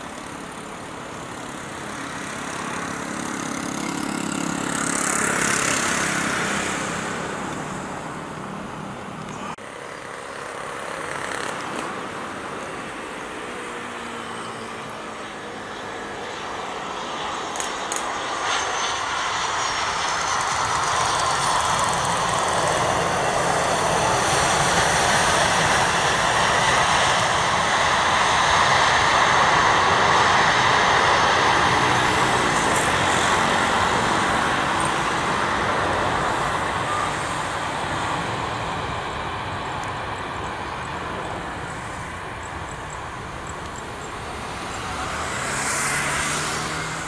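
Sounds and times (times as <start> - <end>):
another jet airliner engine: 0.0 - 47.0
jet airliner engines: 0.0 - 47.0.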